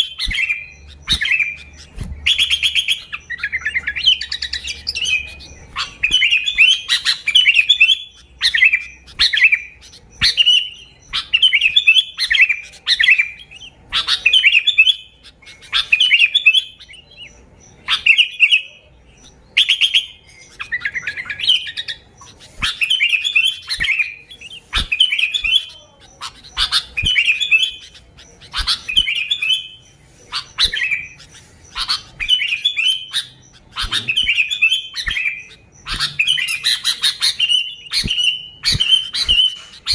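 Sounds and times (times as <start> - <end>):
bulbul singing warbled phrases: 0.0 - 39.9.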